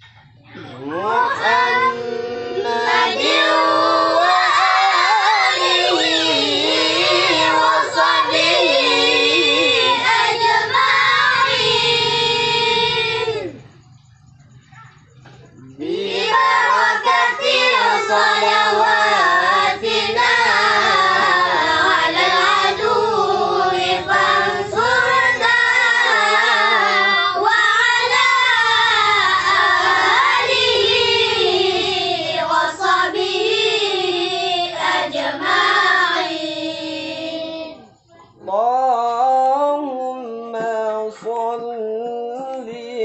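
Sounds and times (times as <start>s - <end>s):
boys singing in unison: 0.6s - 13.7s, 15.8s - 43.0s.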